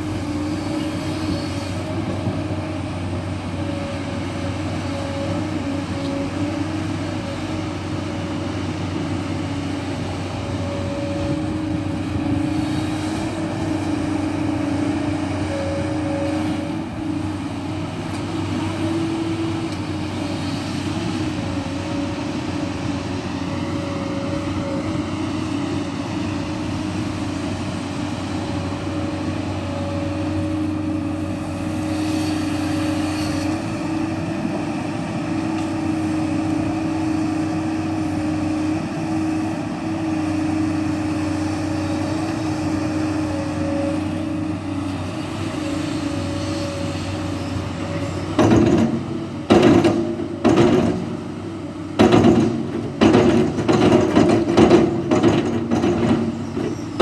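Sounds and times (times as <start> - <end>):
excavator engine drone: 0.0 - 57.0.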